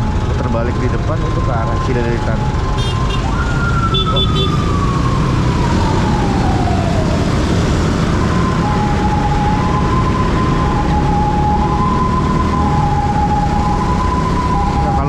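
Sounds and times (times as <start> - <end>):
emergency vehicle siren: 0.0 - 15.0
low road noise rumble: 0.0 - 15.0.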